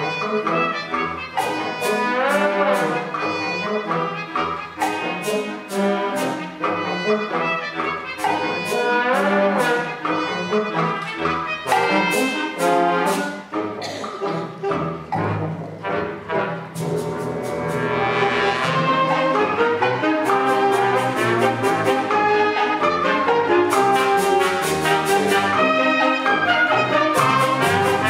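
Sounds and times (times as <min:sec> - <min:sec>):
wind band playing: 0:00.0 - 0:28.0.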